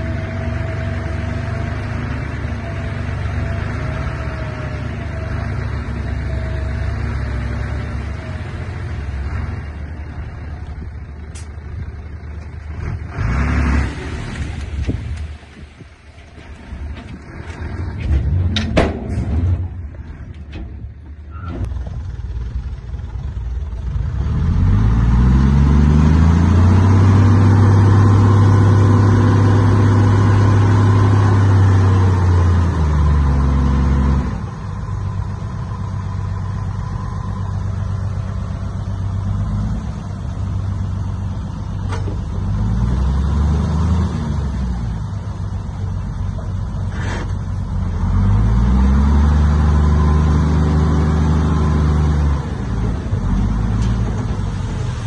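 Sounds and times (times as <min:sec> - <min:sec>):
heavy diesel engine revving: 0:00.0 - 0:15.4, 0:21.6 - 0:55.0.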